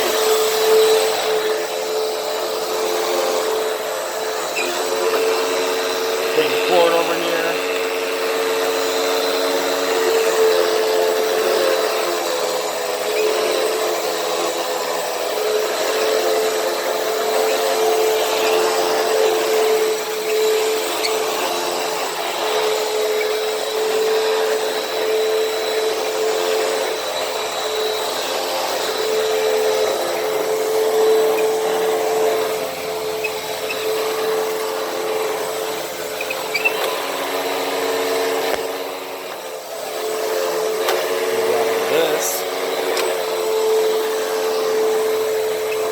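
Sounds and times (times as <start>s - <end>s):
upright vacuum cleaner running: 0.0s - 45.9s.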